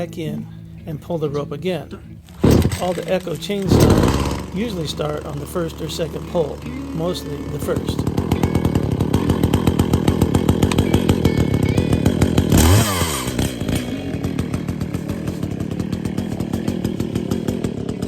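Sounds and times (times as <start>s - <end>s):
chainsaw idling and revving: 0.0s - 18.0s.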